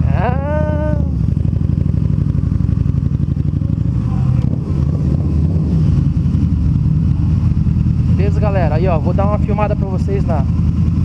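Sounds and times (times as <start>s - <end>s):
motorcycle engine at low speed: 0.0s - 11.0s.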